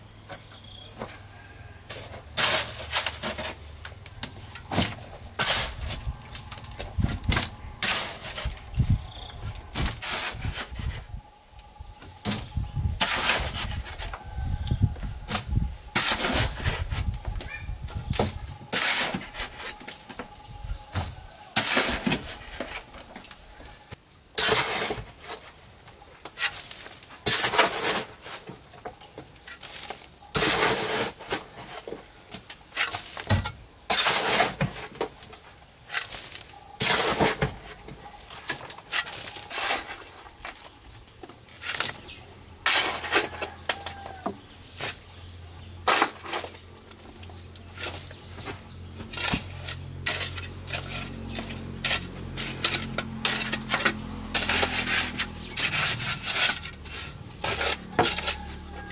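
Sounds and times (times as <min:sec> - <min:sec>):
hand tool scraping soil on concrete: 0:00.3 - 0:11.1, 0:12.2 - 0:17.6, 0:18.2 - 0:20.1, 0:21.0 - 0:23.3, 0:24.4 - 0:25.6, 0:26.2 - 0:58.9.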